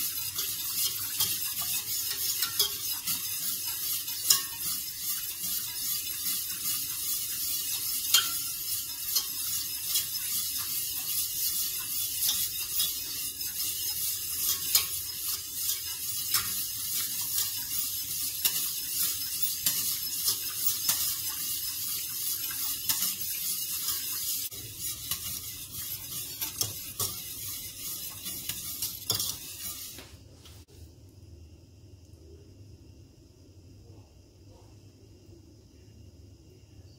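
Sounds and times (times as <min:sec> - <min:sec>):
whisk scraping in metal pot: 0:00.0 - 0:30.3.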